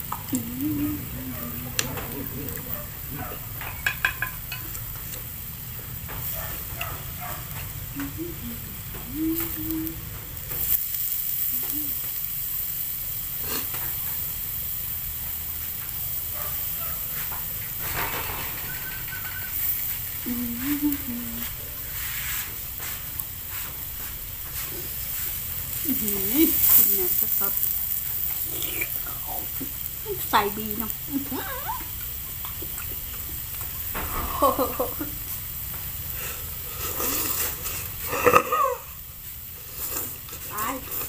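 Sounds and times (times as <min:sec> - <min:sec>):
meat and broth sizzling: 0:00.0 - 0:41.0.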